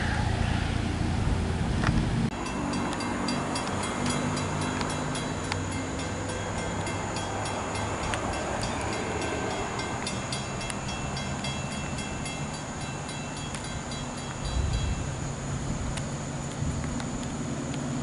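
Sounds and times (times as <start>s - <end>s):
diesel train engine humming: 0.0s - 18.0s.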